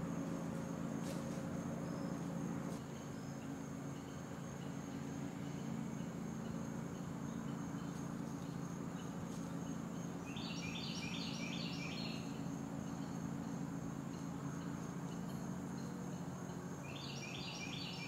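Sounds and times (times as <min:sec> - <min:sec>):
high insect drone: 0:00.0 - 0:18.0
bird singing: 0:01.8 - 0:18.0.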